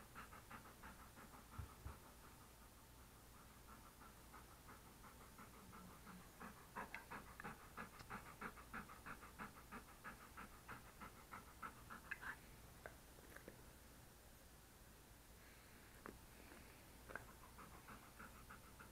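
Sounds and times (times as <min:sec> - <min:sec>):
dog panting: 0:00.0 - 0:12.7, 0:16.3 - 0:18.9.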